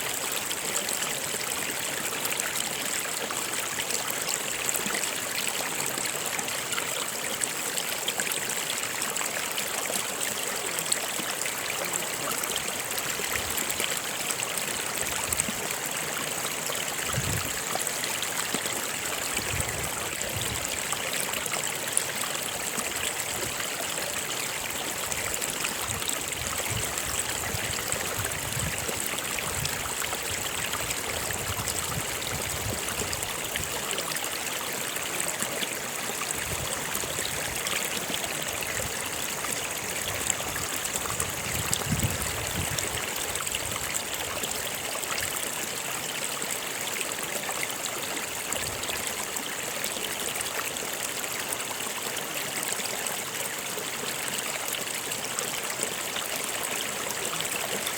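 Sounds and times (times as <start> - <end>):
soft low water gurgles: 0.0 - 57.9
stream running over rocks: 0.0 - 57.9.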